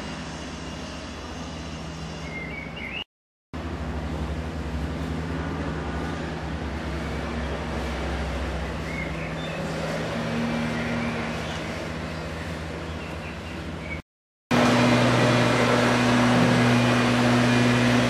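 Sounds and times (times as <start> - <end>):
low mechanical hum: 0.0 - 3.0, 3.6 - 18.0
outdoor background noise: 0.0 - 18.0.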